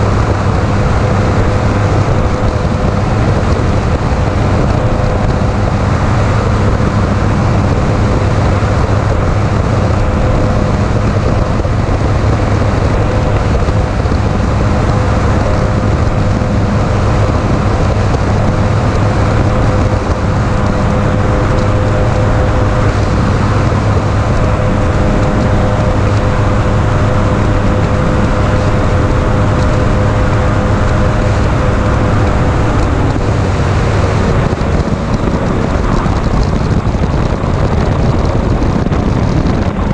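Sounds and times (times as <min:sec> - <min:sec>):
boat engine drone: 0:00.0 - 0:39.9
rush of wind and water: 0:00.0 - 0:39.9.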